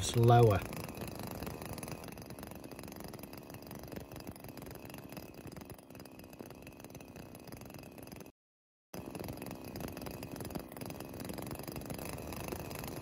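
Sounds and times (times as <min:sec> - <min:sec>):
brushcutter engine idling: 0:00.0 - 0:08.3, 0:09.0 - 0:13.0.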